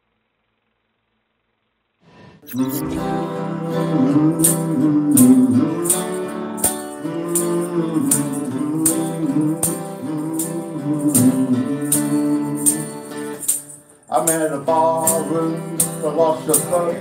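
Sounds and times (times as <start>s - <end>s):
acoustic guitar strumming: 2.4s - 17.0s
jingling hand percussion: 2.4s - 17.0s.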